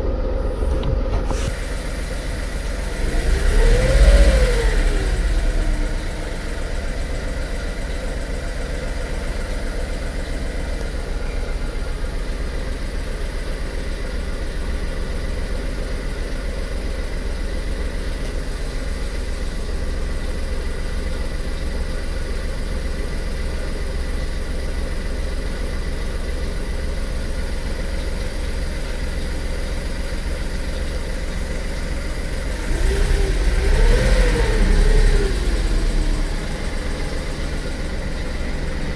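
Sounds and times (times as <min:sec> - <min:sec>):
engine rev: 0:00.0 - 0:22.1, 0:27.2 - 0:38.9
car engine idling: 0:00.0 - 0:38.9.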